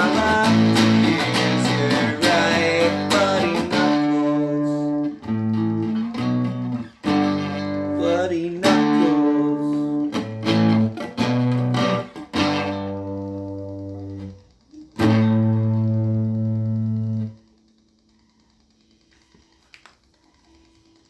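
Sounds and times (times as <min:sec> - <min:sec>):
electric guitar strumming chords: 0:00.0 - 0:17.6
faint amplifier hum: 0:00.0 - 0:21.0.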